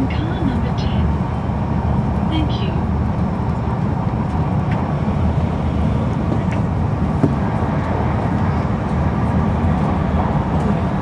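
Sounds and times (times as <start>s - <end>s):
train rumble inside car: 0.0s - 11.0s.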